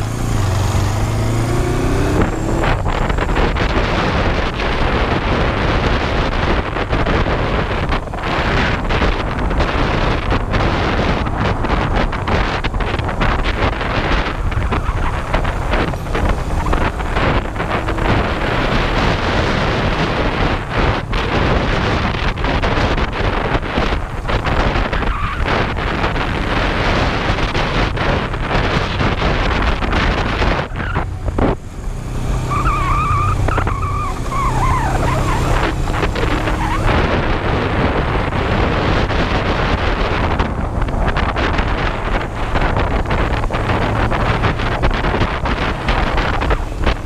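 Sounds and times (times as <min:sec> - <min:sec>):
motorcycle engine running: 0:00.0 - 0:47.0
wind rushing over microphone: 0:00.0 - 0:47.0.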